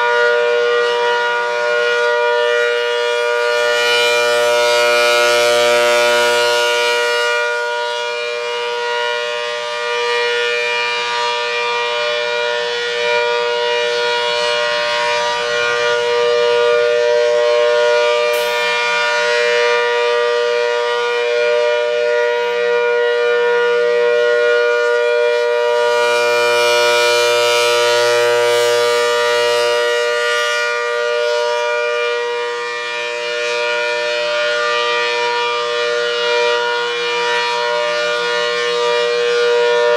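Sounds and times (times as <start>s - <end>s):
two-tone tornado siren: 0.0s - 39.9s.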